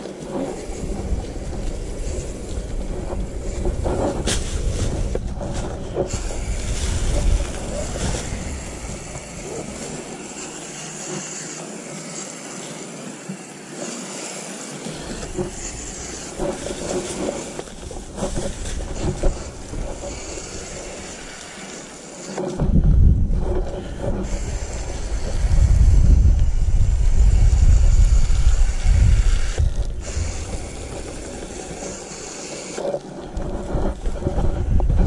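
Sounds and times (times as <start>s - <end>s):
wind rumble on microphone: 0.0s - 11.2s, 14.8s - 35.0s
hose sprayer hissing: 0.0s - 22.8s, 23.4s - 34.7s.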